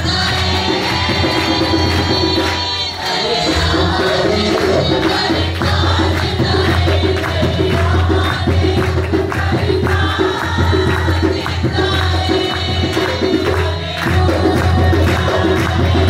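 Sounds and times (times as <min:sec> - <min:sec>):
hand claps and percussion: 0:00.0 - 0:16.0
voices singing: 0:00.0 - 0:16.0.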